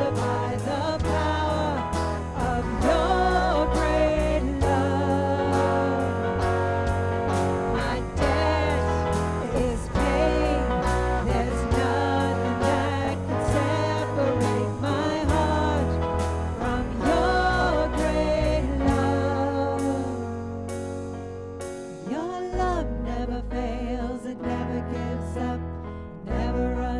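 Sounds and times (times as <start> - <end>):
person singing: 0.0 - 20.7, 22.0 - 26.9
band with guitar and beat: 0.0 - 23.2.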